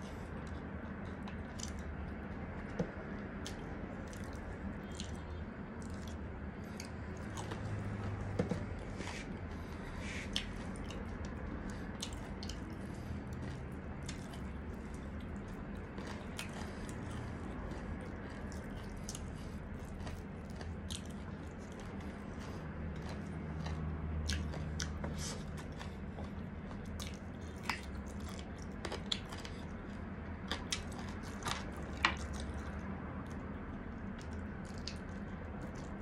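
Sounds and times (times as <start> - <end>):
person chewing and biting: 0.1 - 36.0.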